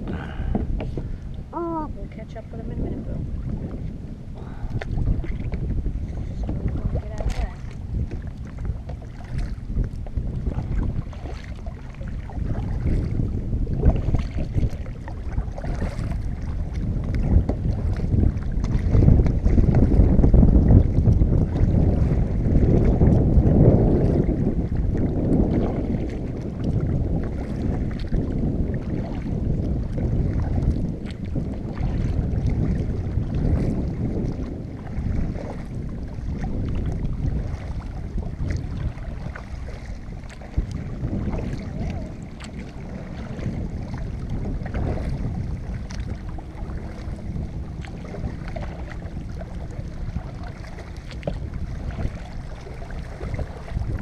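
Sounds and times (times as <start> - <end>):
paddle sloshing water: 0.0 - 54.0
wind noise on microphone: 0.0 - 54.0.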